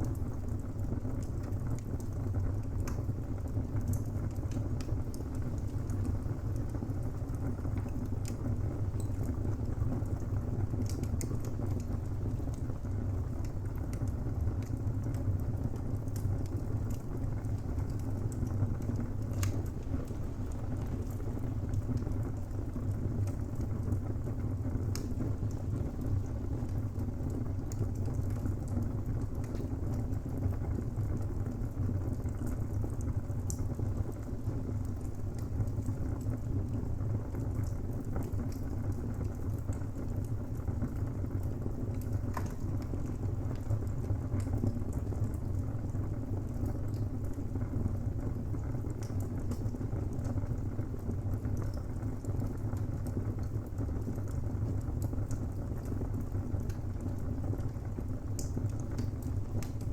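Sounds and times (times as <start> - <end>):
fire rumbling and crackling: 0.0 - 59.9.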